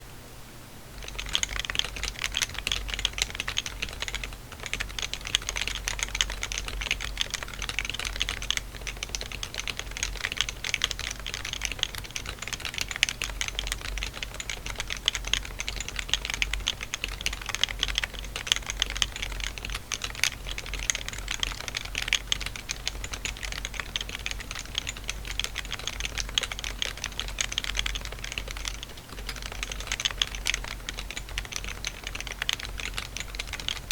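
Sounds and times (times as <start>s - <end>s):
fast keyboard typing: 1.0s - 33.9s.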